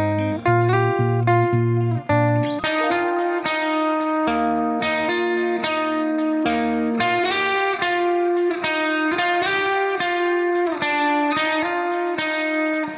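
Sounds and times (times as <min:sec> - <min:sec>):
plucked guitar melody: 0:00.0 - 0:12.9.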